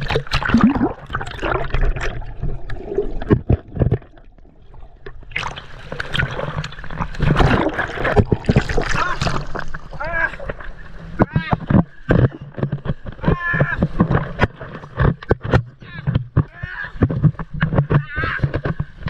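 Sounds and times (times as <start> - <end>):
surf splashing and gurgling: 0.0 - 19.0.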